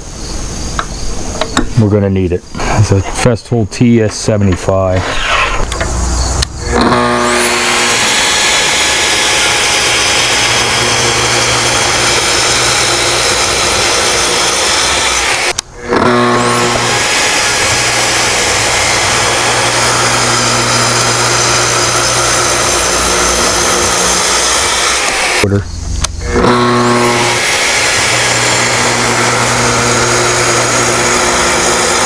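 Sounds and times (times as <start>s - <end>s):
saw cutting through wood: 4.2s - 32.0s
saw spinning up with rising whine: 4.7s - 32.0s.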